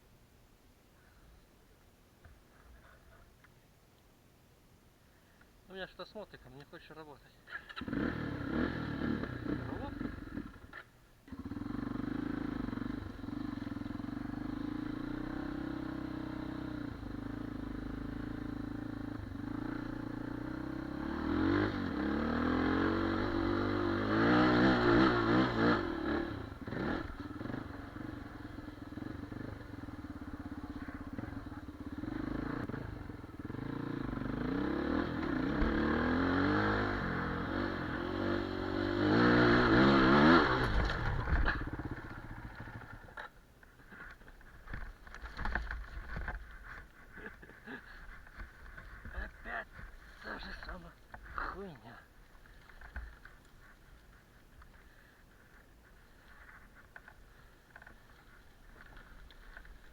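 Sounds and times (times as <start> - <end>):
motorcycle engine idling and revving: 7.6 - 59.9.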